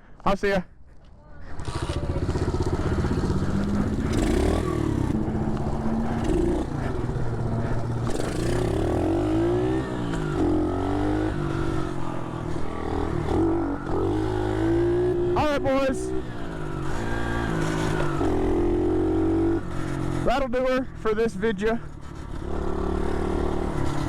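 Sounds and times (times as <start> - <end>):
motorbike engine revving: 1.4 - 20.5, 21.8 - 24.0.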